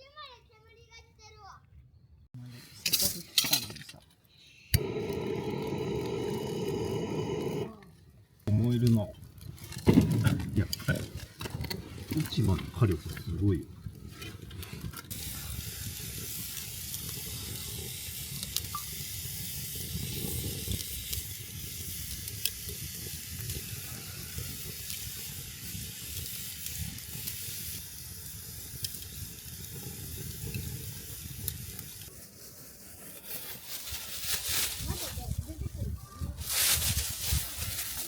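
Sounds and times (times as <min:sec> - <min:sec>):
fire crackling: 0:04.7 - 0:38.0
leaves burning in a drum: 0:04.7 - 0:38.0.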